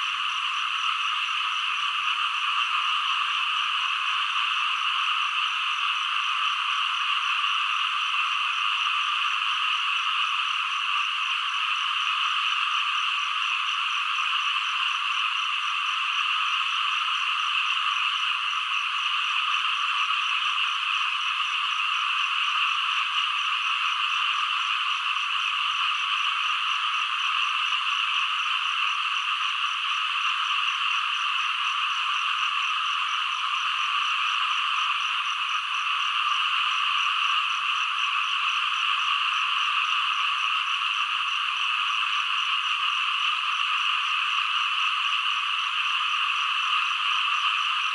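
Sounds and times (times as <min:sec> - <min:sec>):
chorus of frogs croaking: 0:00.0 - 0:47.9.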